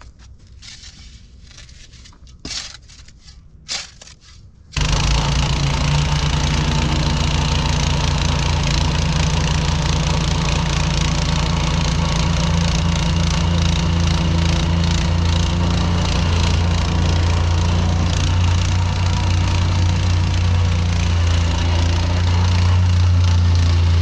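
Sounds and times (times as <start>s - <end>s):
diesel engine running: 4.8s - 24.0s.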